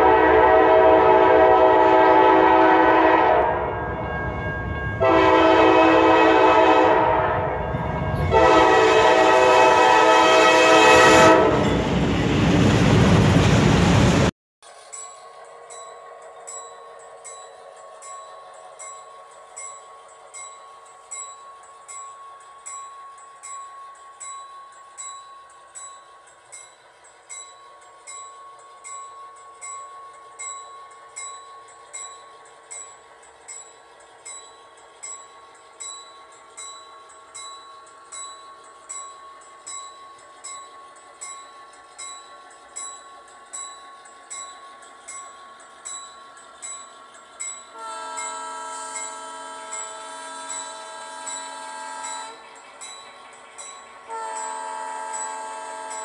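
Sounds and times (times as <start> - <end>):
locomotive bell ringing: 0.0 - 12.3, 14.6 - 56.0.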